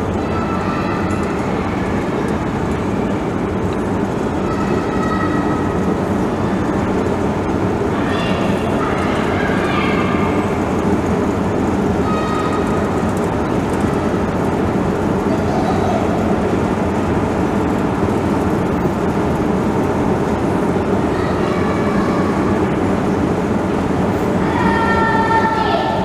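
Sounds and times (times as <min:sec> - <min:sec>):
escalator mechanical rumble: 0:00.0 - 0:26.0
faint hum: 0:00.0 - 0:26.0.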